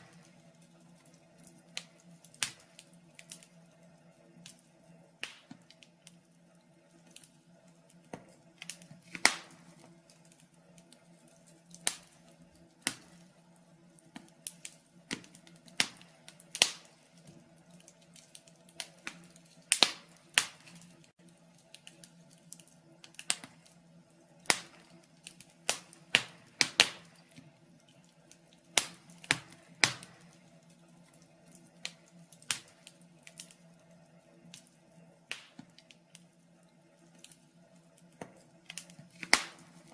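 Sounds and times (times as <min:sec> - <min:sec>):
faint steady hum: 0:00.0 - 0:39.9
wood fire crackling: 0:00.0 - 0:39.9.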